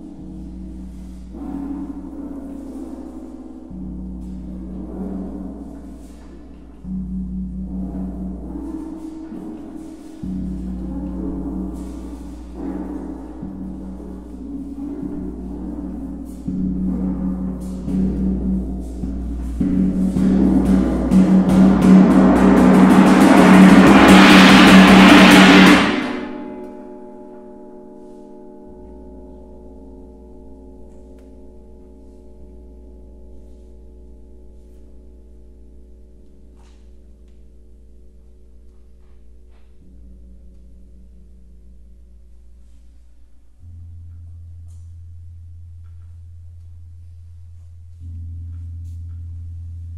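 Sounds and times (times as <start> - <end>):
low ringing tones: 0.0 - 49.9.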